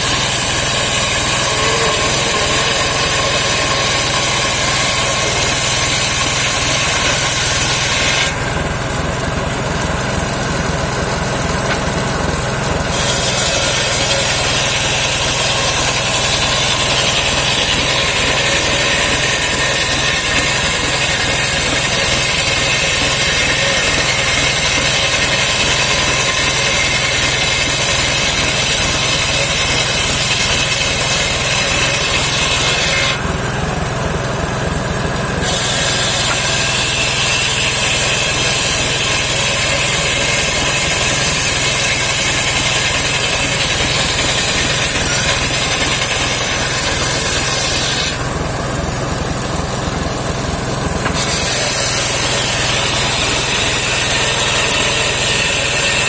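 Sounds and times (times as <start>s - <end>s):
saw blade hissing through wood: 0.0s - 8.6s, 12.9s - 33.2s, 35.4s - 48.4s, 51.0s - 56.0s
sawmill engine running: 0.0s - 56.0s.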